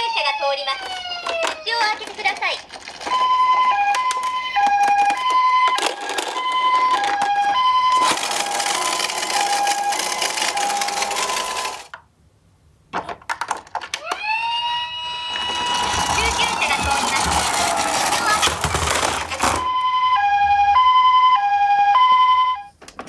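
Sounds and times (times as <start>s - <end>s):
toy two-tone siren: 0.0s - 2.0s, 3.0s - 11.9s, 14.1s - 22.8s.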